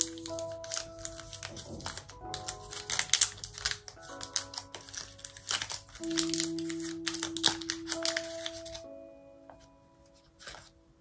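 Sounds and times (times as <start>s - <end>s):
plastic wrapper crinkling: 0.0s - 9.0s, 9.6s - 10.8s
soft background music: 0.0s - 11.0s.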